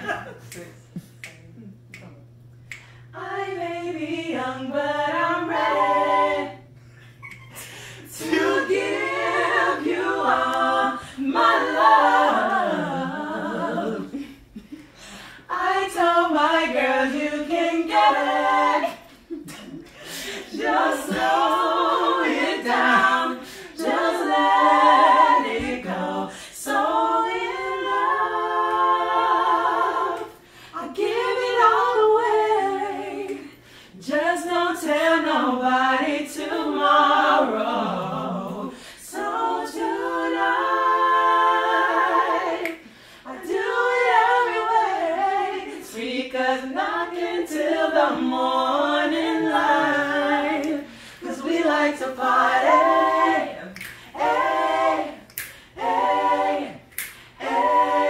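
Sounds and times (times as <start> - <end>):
group singing a cappella: 2.8 - 58.0.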